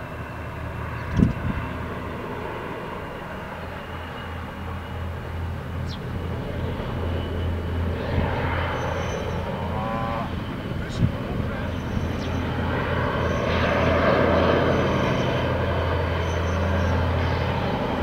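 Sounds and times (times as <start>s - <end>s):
distant diesel locomotive drone: 0.0s - 18.0s.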